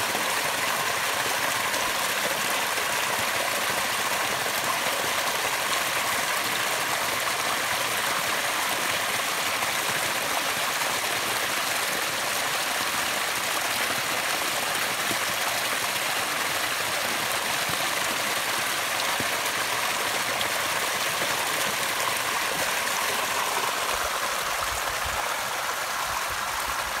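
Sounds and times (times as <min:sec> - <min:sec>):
small waterfall splashing on rocks: 0:00.0 - 0:27.0.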